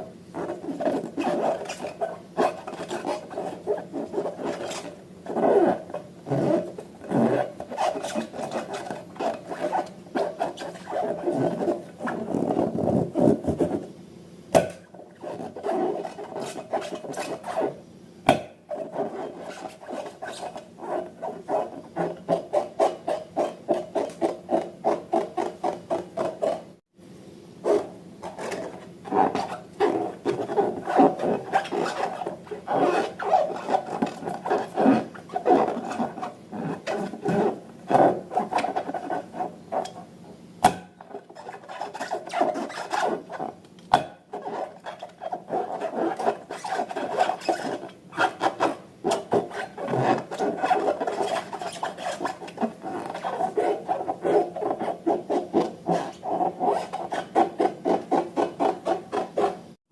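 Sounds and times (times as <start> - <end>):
slime rubbing and scraping: 0.0 - 13.9, 14.8 - 17.8, 18.6 - 26.8, 27.6 - 40.1, 40.9 - 59.8.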